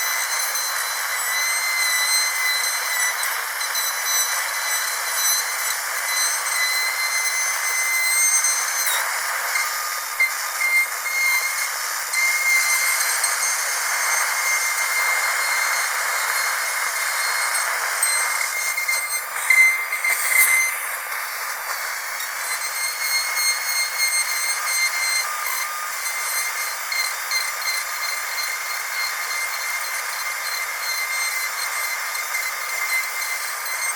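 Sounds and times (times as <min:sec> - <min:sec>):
dentist's drill whining: 0:00.0 - 0:33.9
hiss: 0:00.0 - 0:33.9.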